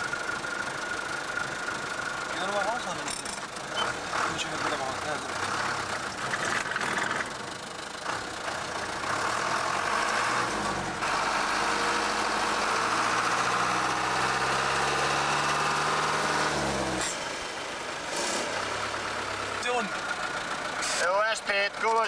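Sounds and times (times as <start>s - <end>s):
car engine from inside cabin: 0.0s - 22.0s
tyres on wet road: 0.0s - 22.0s.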